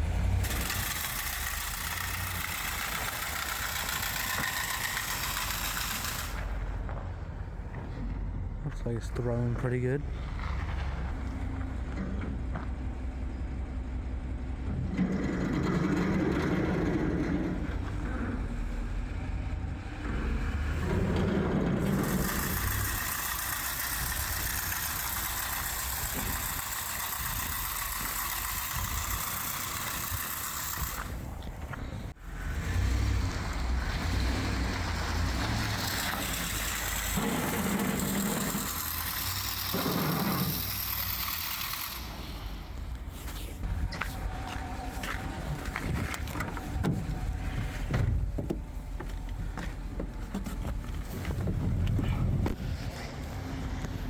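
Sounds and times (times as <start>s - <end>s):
truck engine rumbling: 0.0s - 54.0s.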